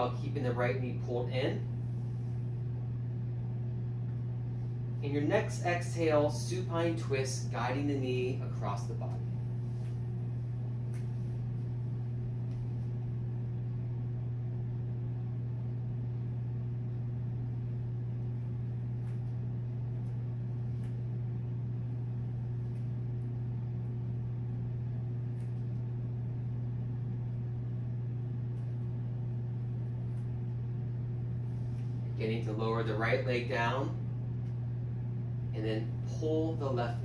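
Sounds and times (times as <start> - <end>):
low hum with faint hiss: 0.0 - 37.0.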